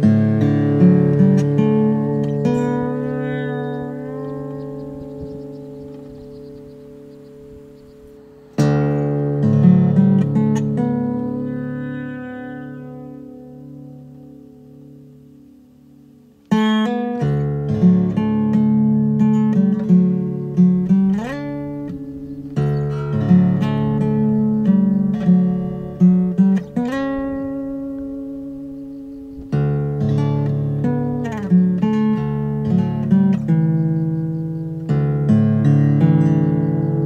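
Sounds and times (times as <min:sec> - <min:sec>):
acoustic guitar melody: 0:00.0 - 0:37.0
soft sustained music: 0:00.0 - 0:37.0.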